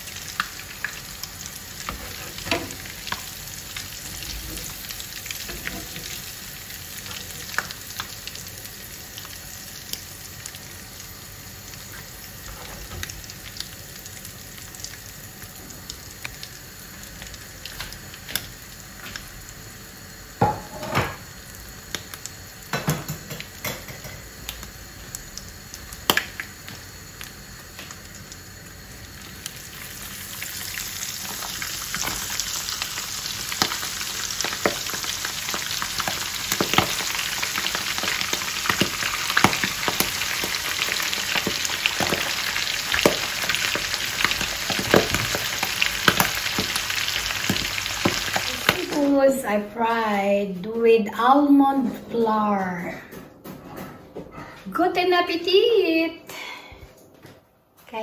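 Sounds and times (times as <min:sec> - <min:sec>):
seafood frying in hot oil: 0:00.0 - 0:49.6.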